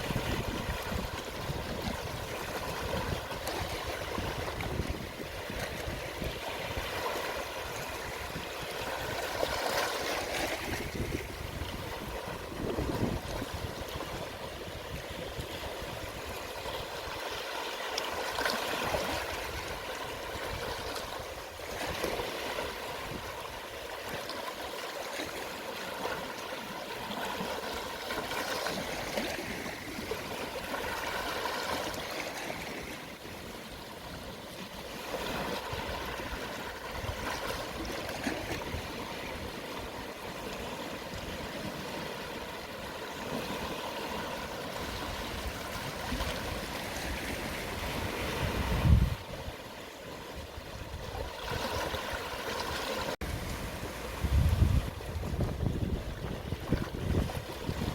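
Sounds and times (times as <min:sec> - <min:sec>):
sea waves washing: 0:00.0 - 0:57.9.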